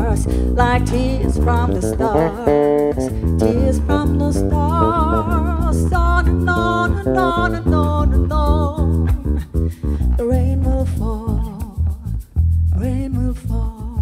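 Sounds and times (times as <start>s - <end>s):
woman singing with vibrato: 0.0s - 12.2s, 12.8s - 14.0s
electric bass guitar: 0.0s - 14.0s
guitar: 0.0s - 14.0s.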